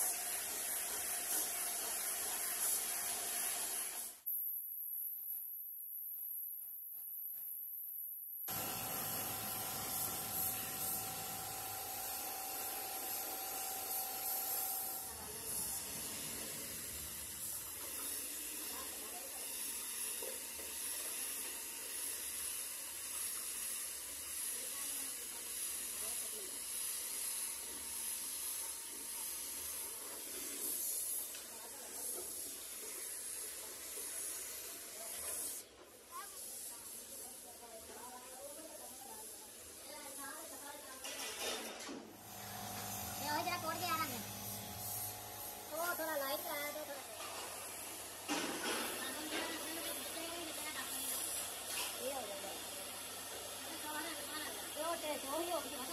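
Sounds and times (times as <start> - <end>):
paint spray gun hissing: 0.0 - 4.6, 8.5 - 40.8, 42.2 - 55.9.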